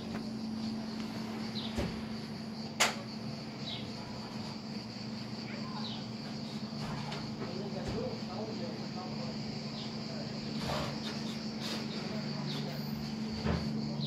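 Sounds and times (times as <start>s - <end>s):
high insect buzz: 0.0s - 14.0s.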